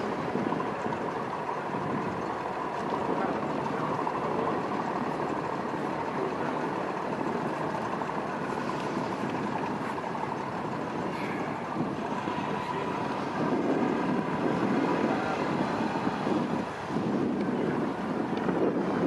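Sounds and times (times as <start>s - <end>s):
boat engine running: 0.0s - 19.0s
faint steady whine: 0.0s - 19.0s.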